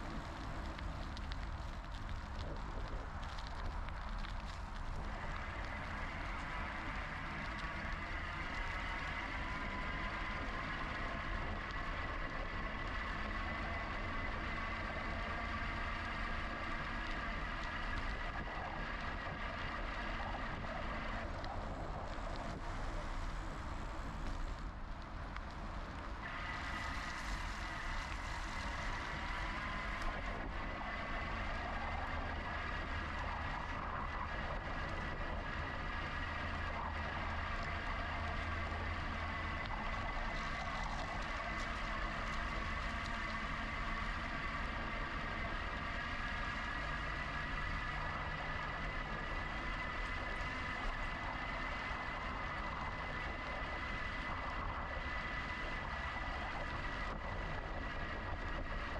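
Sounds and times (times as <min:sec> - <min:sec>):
wind and tyres rumble: 0:00.0 - 0:58.9
electric bike motor whine: 0:03.8 - 0:58.9.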